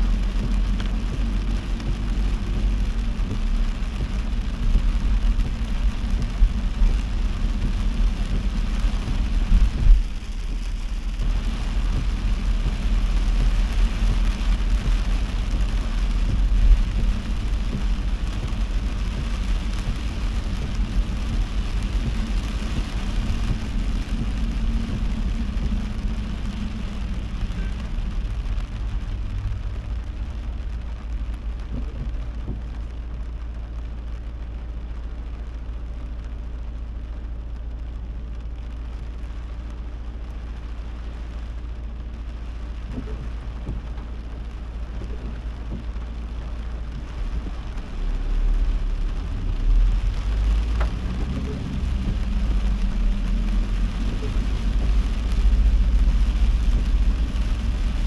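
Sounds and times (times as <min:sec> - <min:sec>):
car engine and tyres rumble: 0:00.0 - 0:58.0
heavy rain on car: 0:00.0 - 0:58.0.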